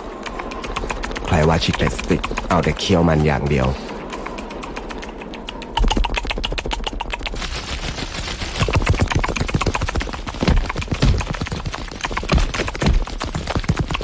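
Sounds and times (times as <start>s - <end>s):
fast rattle of sharp clicks: 0.0s - 3.0s, 3.9s - 7.5s, 8.6s - 14.0s.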